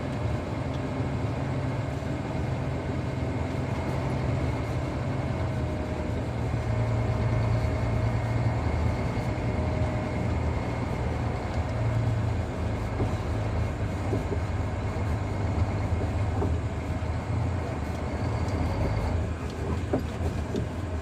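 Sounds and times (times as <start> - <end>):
heavy diesel engine rumbling: 0.0 - 21.0
thin steady whine: 0.0 - 21.0.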